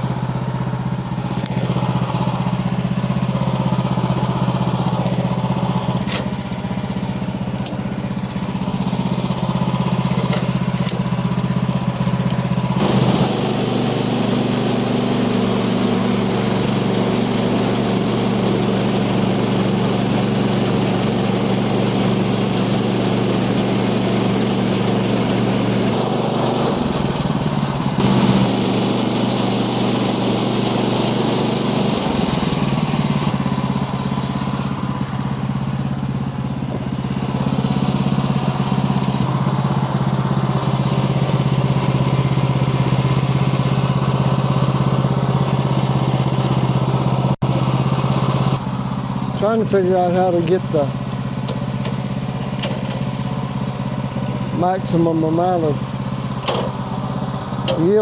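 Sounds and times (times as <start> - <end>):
gas engine running steadily: 0.0 - 58.0.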